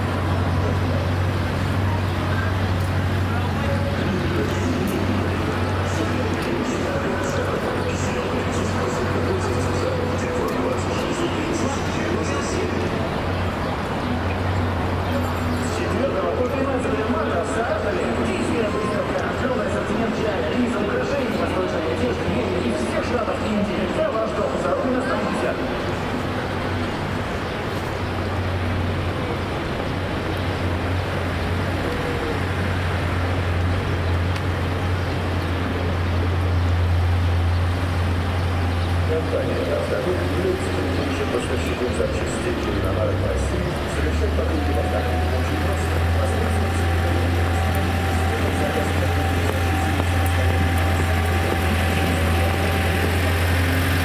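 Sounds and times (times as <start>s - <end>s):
road train engine humming: 0.0s - 54.0s
street traffic rumble: 0.0s - 54.0s.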